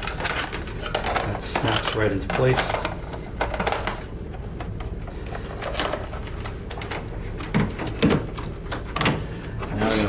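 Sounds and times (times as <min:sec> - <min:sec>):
low room hum: 0:00.0 - 0:10.0
plastic handling sounds: 0:00.0 - 0:10.0.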